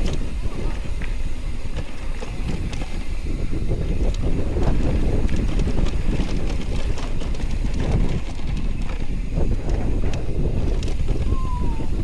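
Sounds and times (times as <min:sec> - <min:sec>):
light clicks and rattles: 0:00.0 - 0:11.4
wind buffeting microphone: 0:00.0 - 0:12.0.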